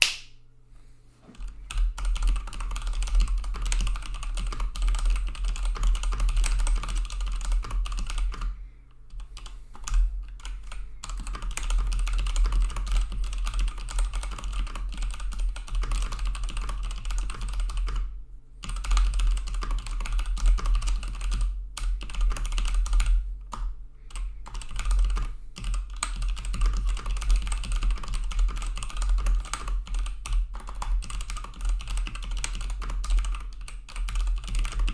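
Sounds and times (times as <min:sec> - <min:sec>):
mechanical keyboard typing: 0:01.7 - 0:08.5, 0:09.4 - 0:18.0, 0:18.6 - 0:34.9.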